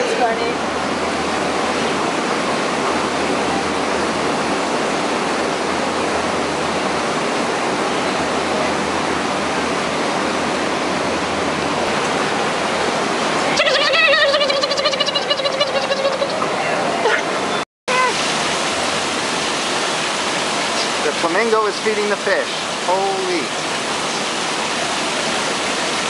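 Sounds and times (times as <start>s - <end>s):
falling water rushing: 0.0s - 26.0s.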